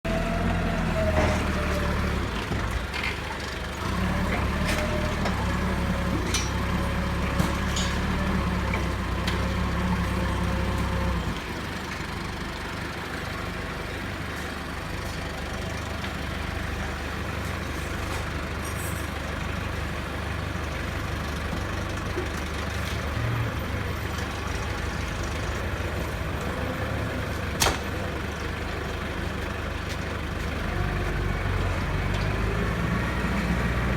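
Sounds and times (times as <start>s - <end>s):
heavy machine engine running: 0.1s - 33.9s.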